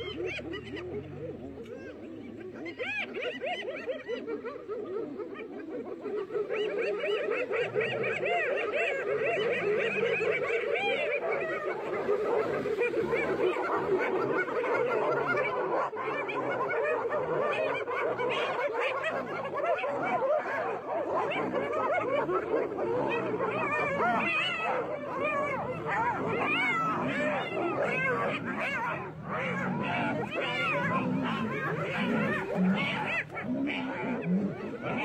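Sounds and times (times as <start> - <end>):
hyenas giggling: 0.0 - 35.0.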